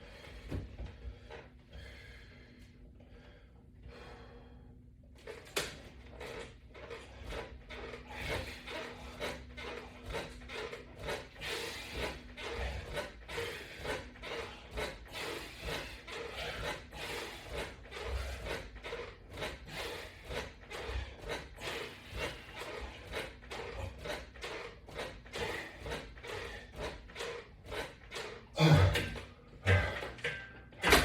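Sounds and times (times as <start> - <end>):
rubbing breathy exercise strokes: 0.0 - 30.2.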